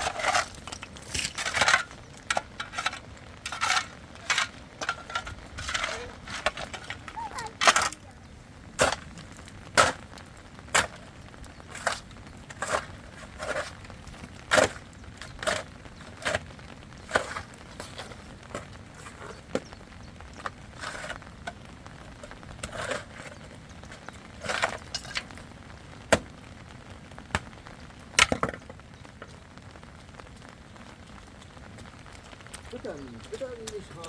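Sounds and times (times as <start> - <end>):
faint steady background noise: 0.0 - 34.0.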